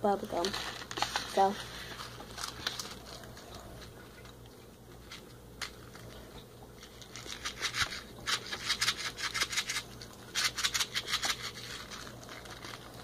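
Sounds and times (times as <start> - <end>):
candy packaging rustling: 0.0 - 13.0.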